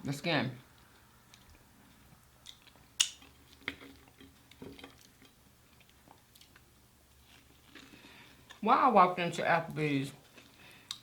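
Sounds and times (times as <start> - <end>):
person chewing food: 0.6 - 8.6, 10.2 - 11.0.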